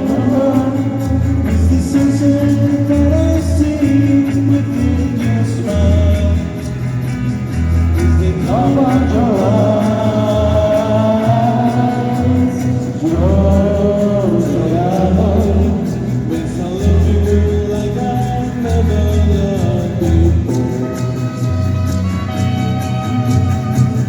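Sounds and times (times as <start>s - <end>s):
person singing: 0.0s - 7.1s, 7.9s - 24.0s
pulsing bass: 0.0s - 24.0s
strummed guitar: 0.0s - 24.0s.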